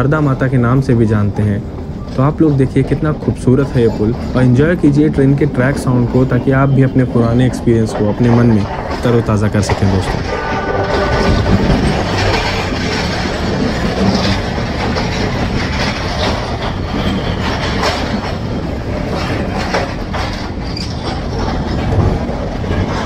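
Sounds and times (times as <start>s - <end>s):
rail joint clicks and knocks: 0.0s - 23.0s
train wheels clattering on rails: 0.0s - 23.0s.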